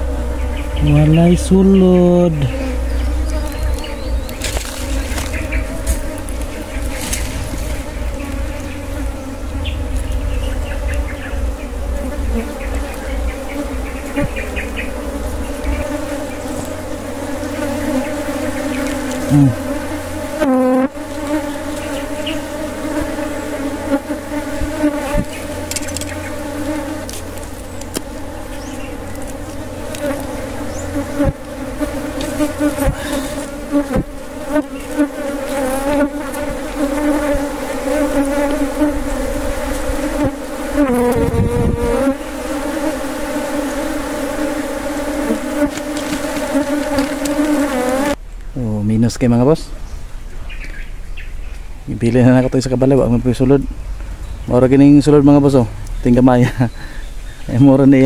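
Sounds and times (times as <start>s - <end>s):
bee flying past: 0.0s - 48.2s
honeybees buzzing: 0.0s - 48.2s, 50.4s - 58.0s.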